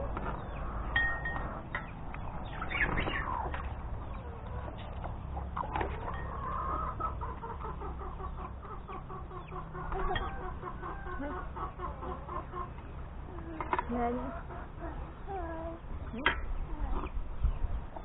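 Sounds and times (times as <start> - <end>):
chickens clucking: 0.0 - 18.0
steady low rumble: 0.0 - 18.0.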